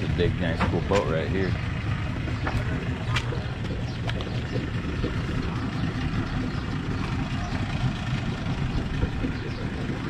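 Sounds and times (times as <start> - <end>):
motorboat engine rumbling: 0.0 - 10.0.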